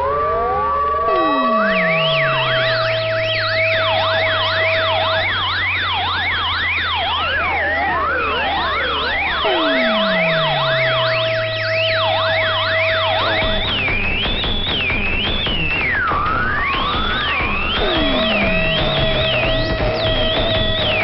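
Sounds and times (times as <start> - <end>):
low synthesizer drone: 0.0 - 21.0
synthesizer tones sweeping up and down: 0.0 - 21.0
held synthesizer tones: 1.0 - 14.5, 16.8 - 21.0.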